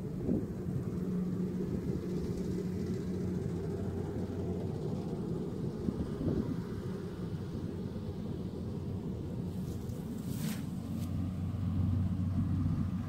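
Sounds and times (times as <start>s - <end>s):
distant diesel engine hum: 0.0s - 13.0s.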